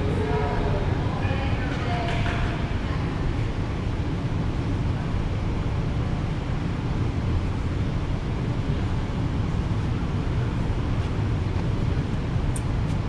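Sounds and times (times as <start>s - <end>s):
ventilation system rumbling: 0.0s - 13.0s.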